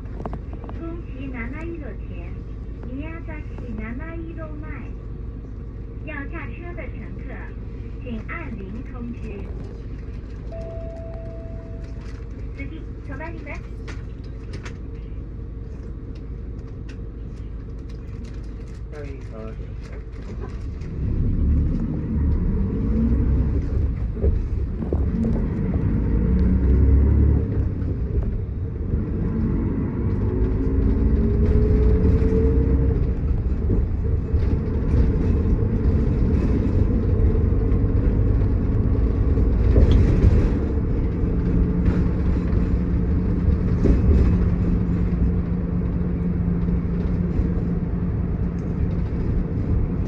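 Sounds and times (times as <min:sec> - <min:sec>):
bus diesel engine rumble: 0:00.0 - 0:50.0.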